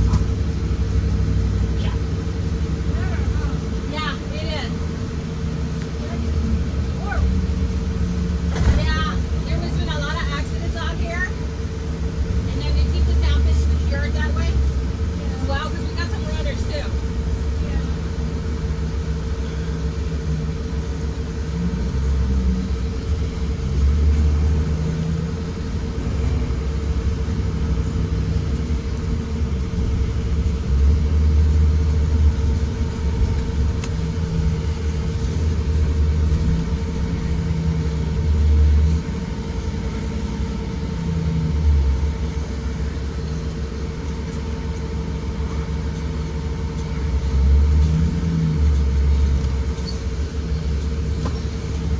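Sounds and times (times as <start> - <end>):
bus engine and road rumble: 0.0 - 51.9
steady hum: 0.0 - 51.9.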